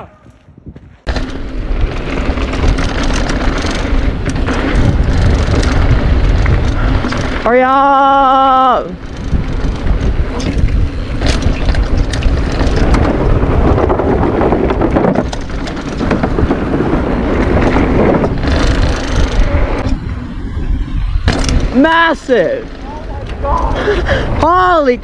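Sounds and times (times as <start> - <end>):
wind buffeting microphone: 0.0 - 25.0
bike knocks and rattles: 0.7 - 7.8, 9.0 - 20.2, 21.1 - 24.0
tyres rumbling on dirt: 1.0 - 25.0.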